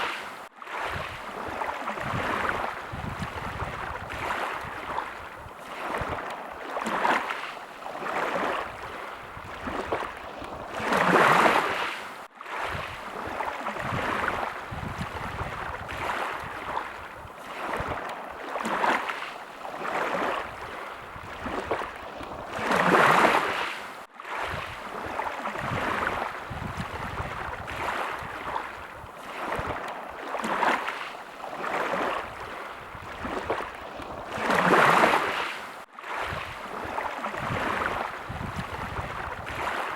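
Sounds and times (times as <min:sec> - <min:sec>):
big wave washing in: 0:00.0 - 0:39.9
small waves lapping at shore: 0:00.0 - 0:39.9.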